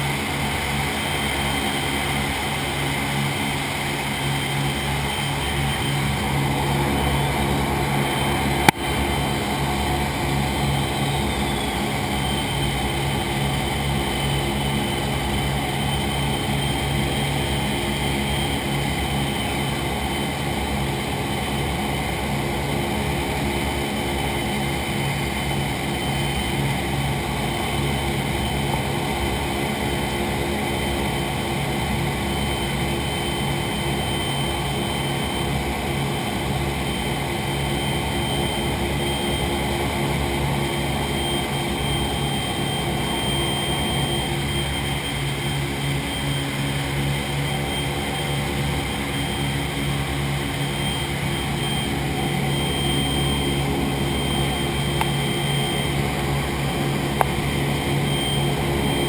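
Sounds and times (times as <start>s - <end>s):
propeller aircraft engines droning: 0.0s - 59.0s.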